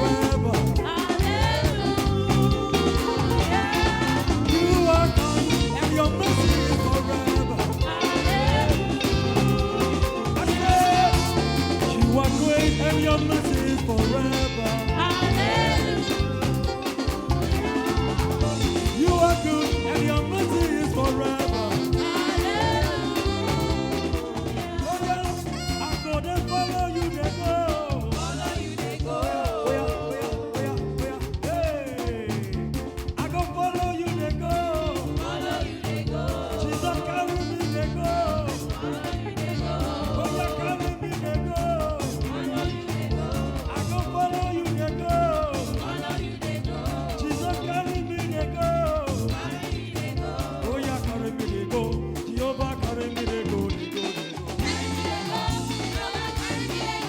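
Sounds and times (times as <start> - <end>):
drums playing dance beat: 0.0 - 57.0
live gospel band music: 0.0 - 57.0.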